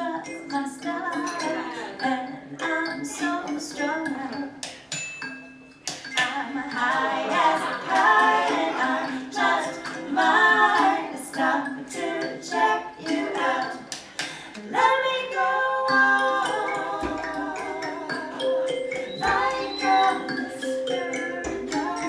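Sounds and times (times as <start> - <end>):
voices singing pop song: 0.0 - 5.0, 5.9 - 22.0
plucked kalimbas: 0.0 - 22.0.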